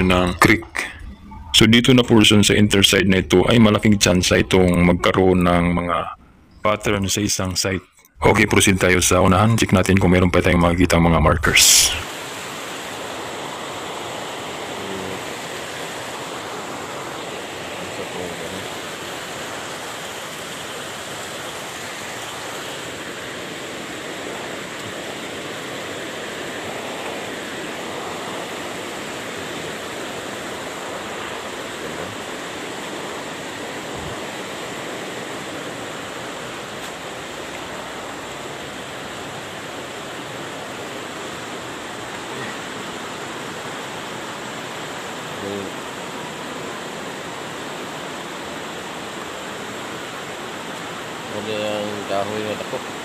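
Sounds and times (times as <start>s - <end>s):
river rapids rushing over boulders: 8.4s - 53.0s.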